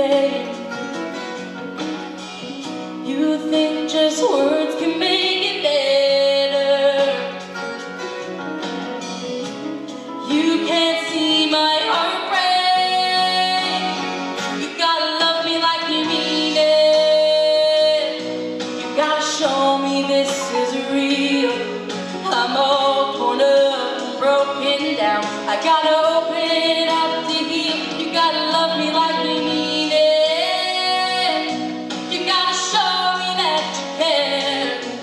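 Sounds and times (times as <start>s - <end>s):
acoustic guitar: 0.0s - 35.0s
woman singing country song: 0.0s - 35.0s.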